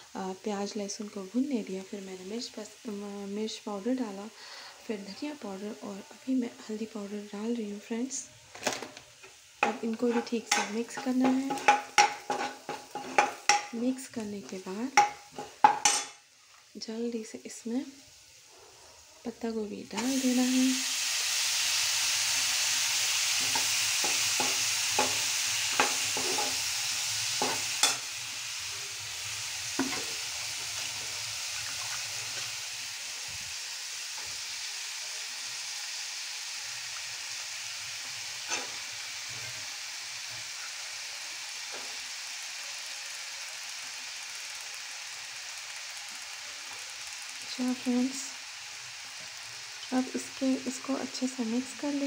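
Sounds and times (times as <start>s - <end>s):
cabbage sizzling in hot oil: 0.0s - 52.0s.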